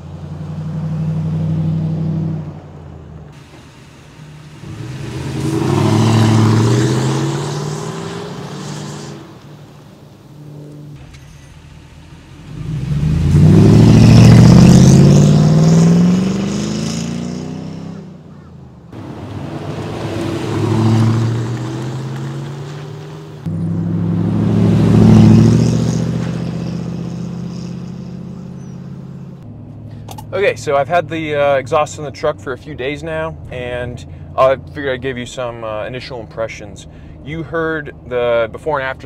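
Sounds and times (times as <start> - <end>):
truck engine accelerating: 0.0 - 39.0.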